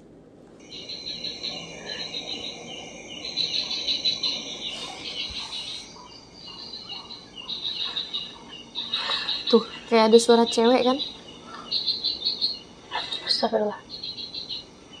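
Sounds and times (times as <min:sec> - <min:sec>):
insects chirping: 0:00.6 - 0:15.0.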